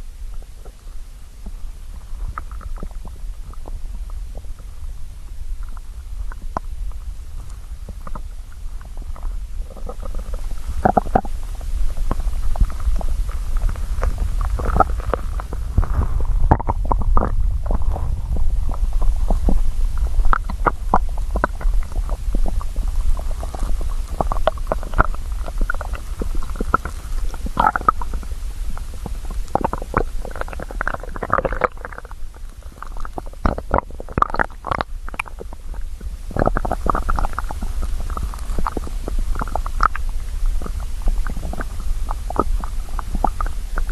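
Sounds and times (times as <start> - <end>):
stomach growling: 0.0 - 43.9.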